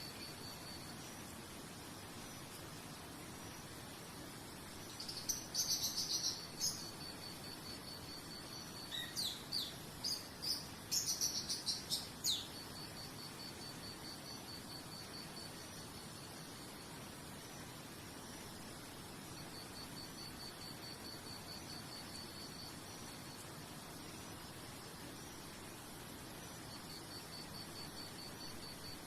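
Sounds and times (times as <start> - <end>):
insect high-pitched pulsing trill: 0.0 - 29.0
soft hiss: 0.0 - 29.0.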